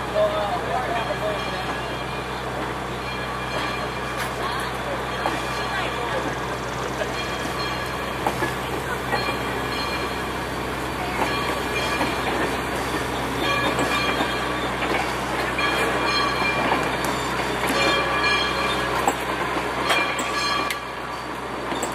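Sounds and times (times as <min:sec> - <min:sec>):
train rumbling on track: 0:00.0 - 0:21.9
wheels clicking over rail joints: 0:00.1 - 0:21.9.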